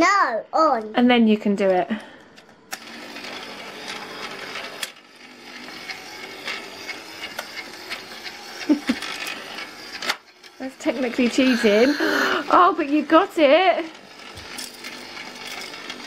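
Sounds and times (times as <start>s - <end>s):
toy motor whirring: 2.7s - 16.0s.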